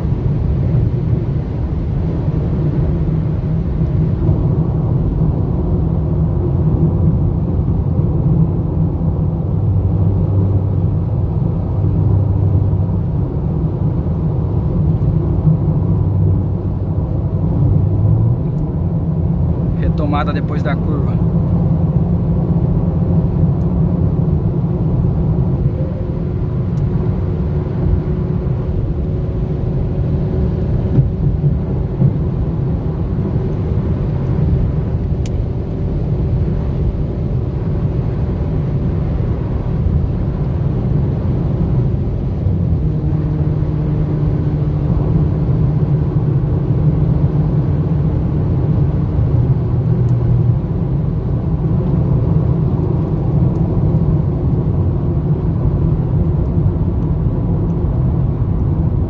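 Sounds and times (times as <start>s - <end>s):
car engine drone: 0.0s - 59.0s
road and tyre noise: 0.0s - 59.0s.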